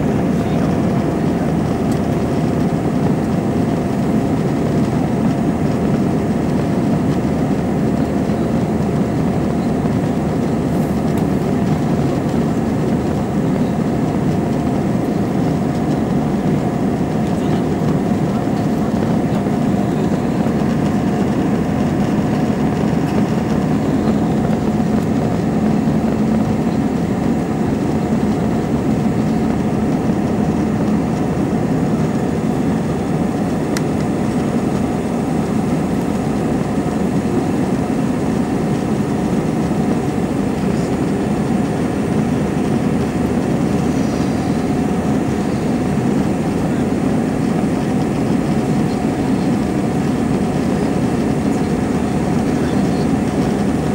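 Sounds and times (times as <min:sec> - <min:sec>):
jet engine and airflow drone: 0:00.0 - 0:53.9.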